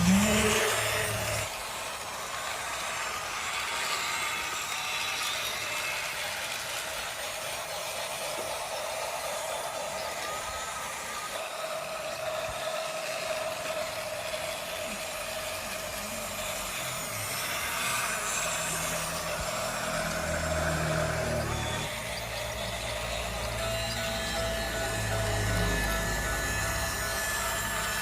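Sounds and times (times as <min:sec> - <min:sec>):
toy train motor whining: 0:00.0 - 0:28.0.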